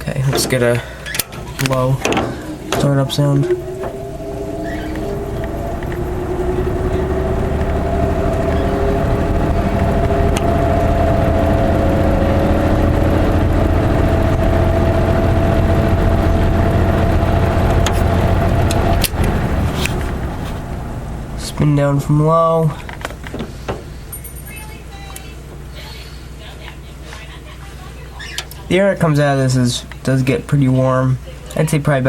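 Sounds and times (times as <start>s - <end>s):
dehumidifier fan humming: 0.0s - 32.0s.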